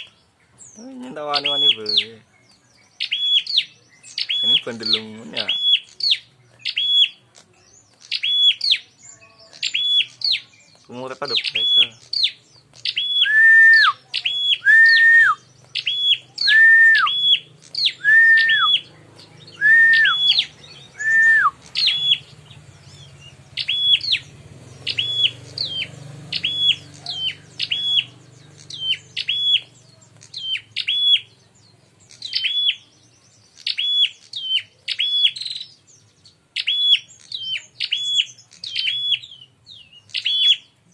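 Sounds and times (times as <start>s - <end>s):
bird singing whistled phrases: 0.0s - 40.8s.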